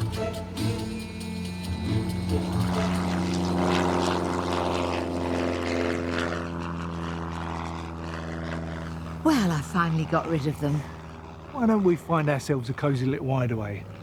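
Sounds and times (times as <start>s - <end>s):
propeller plane engine running: 0.0s - 14.0s.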